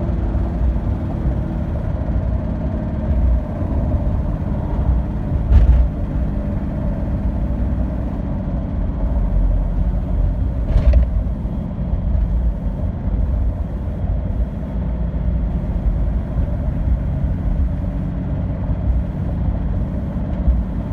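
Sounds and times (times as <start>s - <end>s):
diesel engine running with ticking: 0.0s - 20.9s.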